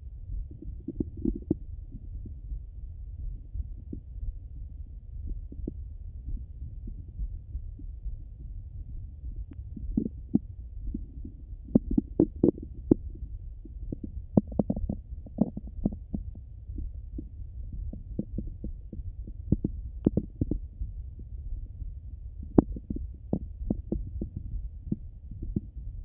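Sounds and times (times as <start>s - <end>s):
low steady hum: 0.0s - 26.0s
stomach gurgles and pops: 0.3s - 26.0s.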